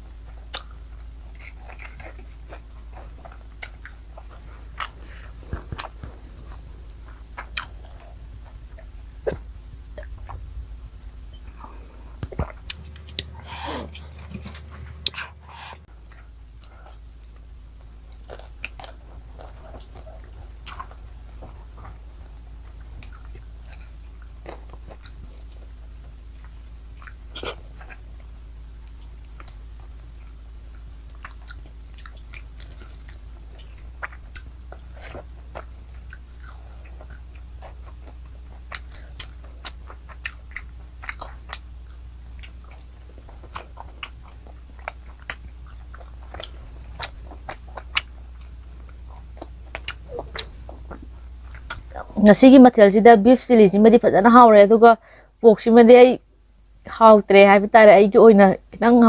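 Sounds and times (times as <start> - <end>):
chewing with wet mouth smacks: 0.1 - 10.5, 11.3 - 52.0.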